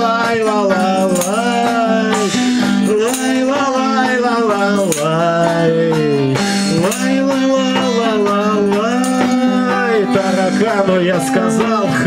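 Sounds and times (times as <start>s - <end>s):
person singing wordless refrain: 0.0s - 12.0s
strummed acoustic guitar: 0.0s - 12.0s.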